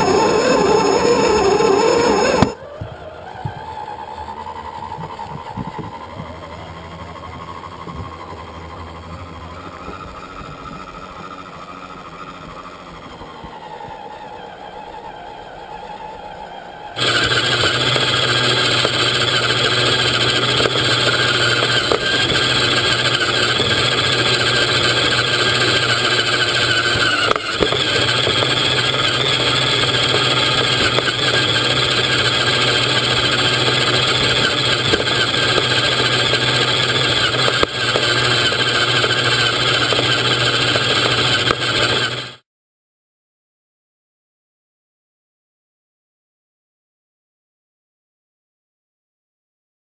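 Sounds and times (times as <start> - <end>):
toy truck motor whine: 0.0 - 42.4.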